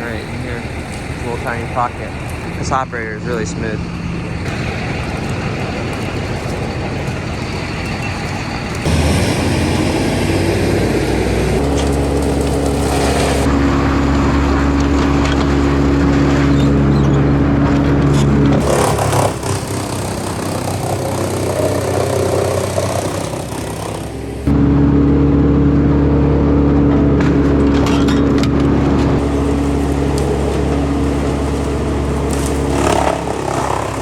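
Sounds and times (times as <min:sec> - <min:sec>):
diesel engine revving under load: 0:00.0 - 0:34.0.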